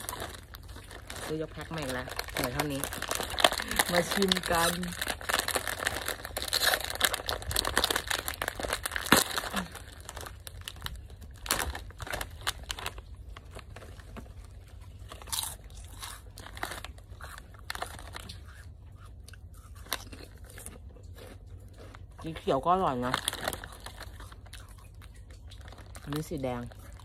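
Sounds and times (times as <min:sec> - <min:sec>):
foil snack packet torn open: 0:00.0 - 0:27.0
plastic bag crinkling: 0:00.0 - 0:27.0.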